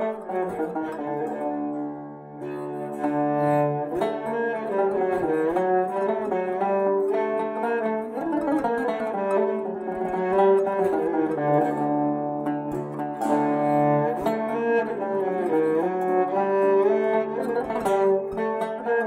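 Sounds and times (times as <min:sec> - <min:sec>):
bowed fiddle sustained notes: 0:00.0 - 0:19.0.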